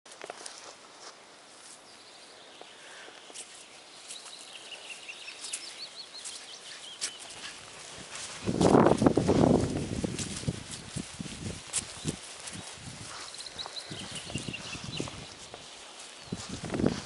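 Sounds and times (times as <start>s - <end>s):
footsteps on grass: 0.1s - 17.0s.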